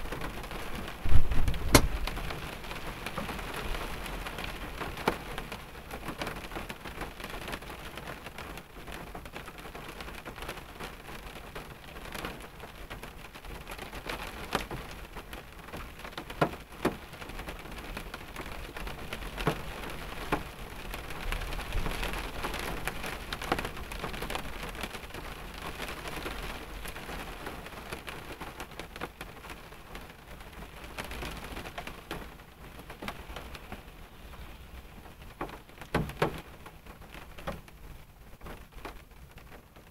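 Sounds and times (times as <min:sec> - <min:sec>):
rain pattering on a car: 0:00.0 - 0:39.9
raindrops striking car body: 0:00.0 - 0:39.9.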